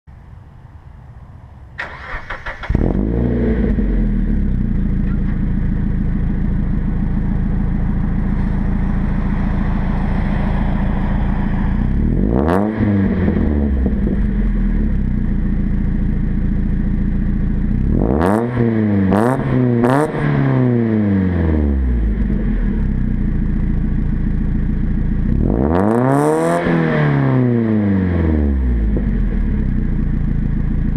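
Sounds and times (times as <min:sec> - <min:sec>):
car engine idling: 0:00.1 - 0:20.0, 0:20.8 - 0:25.9, 0:27.7 - 0:30.9
car engine starting: 0:00.2 - 0:30.9
car engine revving: 0:00.9 - 0:30.9.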